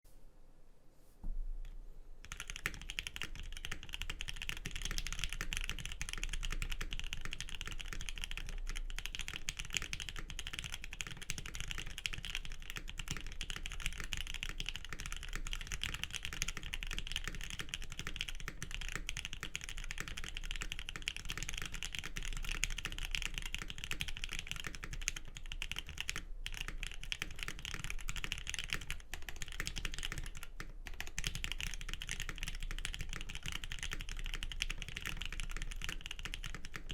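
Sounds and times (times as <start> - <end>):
mechanical keyboard typing: 2.3 - 36.9.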